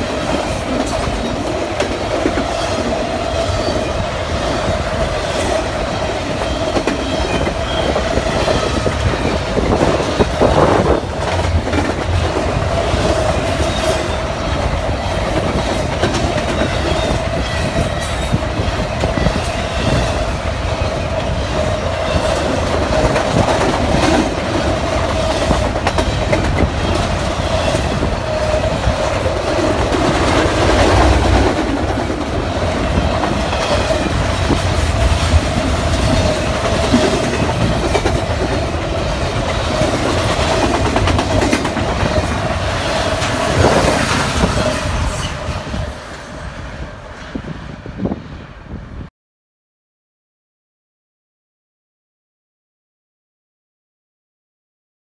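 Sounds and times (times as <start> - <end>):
train wheels clacking on rail joints: 0.0 - 45.6
freight train rumble: 0.0 - 49.1.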